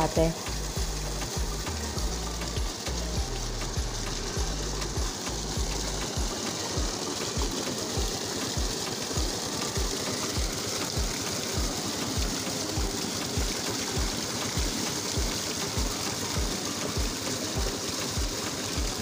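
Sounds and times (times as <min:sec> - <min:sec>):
engine low thumping: 0:00.0 - 0:17.1
water gushing and splashing: 0:00.0 - 0:19.0.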